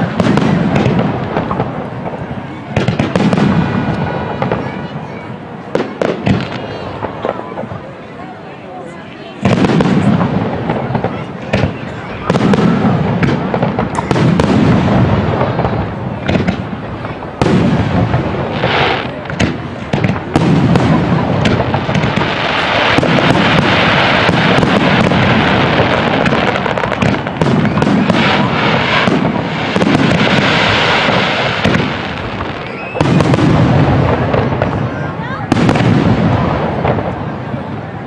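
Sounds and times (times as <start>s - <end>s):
fireworks booming: 0.0s - 8.1s, 9.3s - 38.0s
fireworks crackling: 0.0s - 38.0s.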